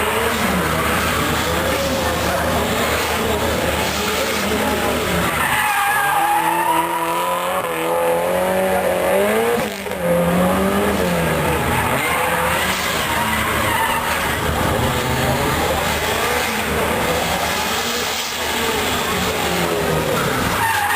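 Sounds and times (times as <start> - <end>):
car engine revving: 0.0 - 20.9
tyres squealing: 0.2 - 20.9.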